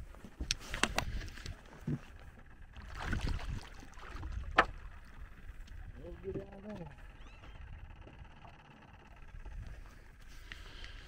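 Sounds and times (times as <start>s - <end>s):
knocks and clicks in boat: 0.0s - 11.0s.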